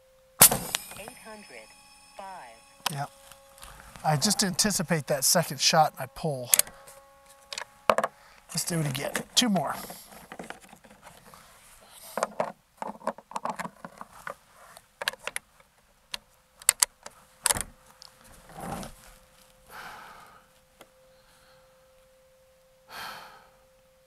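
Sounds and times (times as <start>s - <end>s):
faint steady tone: 0.0s - 12.7s, 15.9s - 24.0s.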